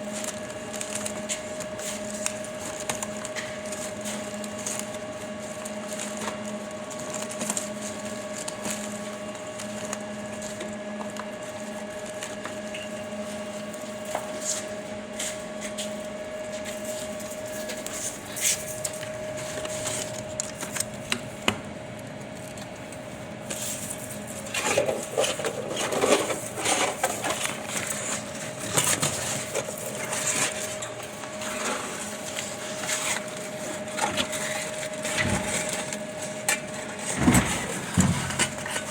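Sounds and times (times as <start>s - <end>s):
baling press machine hum: 0.0s - 38.9s.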